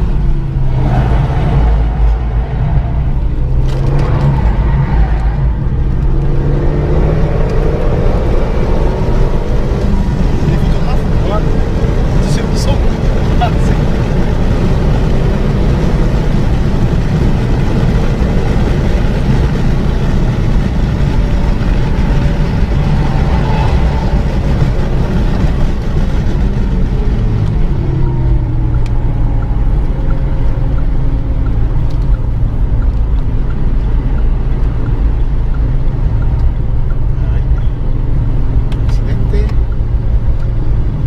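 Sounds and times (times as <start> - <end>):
wind noise: 0.0 - 36.8
car engine at speed: 0.0 - 41.0.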